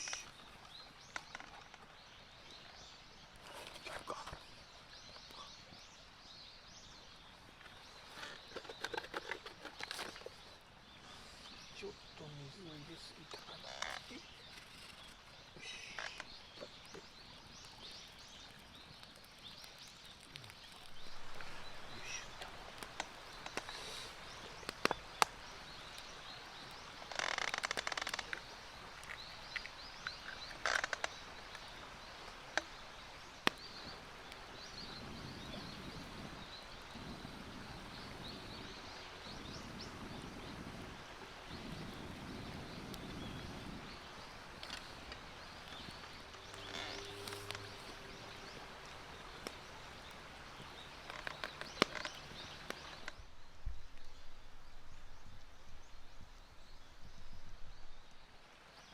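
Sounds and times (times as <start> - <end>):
birds chirping: 0.0 - 53.4.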